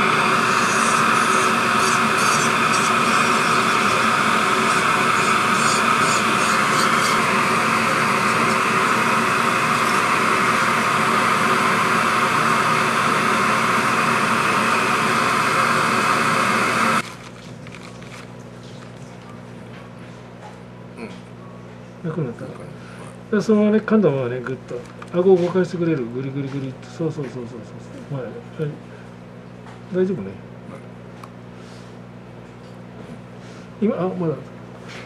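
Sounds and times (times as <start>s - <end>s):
loud steady mechanical noise: 0.0s - 35.0s.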